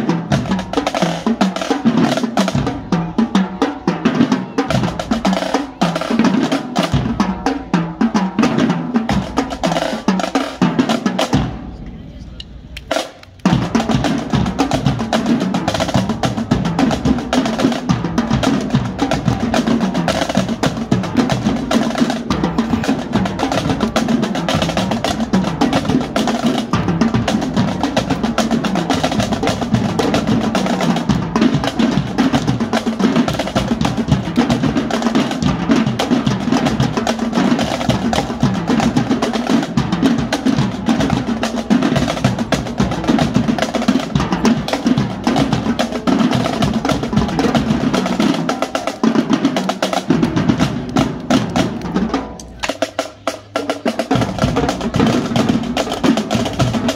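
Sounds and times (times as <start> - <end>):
marching drumline cadence: 0.0 - 56.9.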